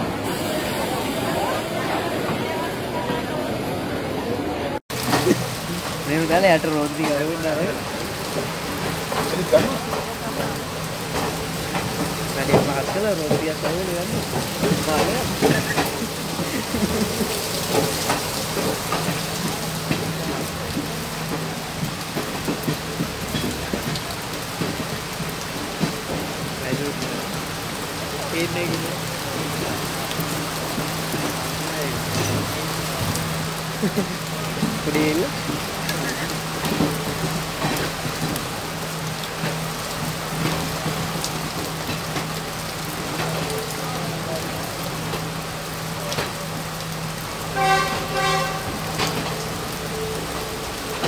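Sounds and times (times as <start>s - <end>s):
train rushing noise: 0.0s - 51.0s.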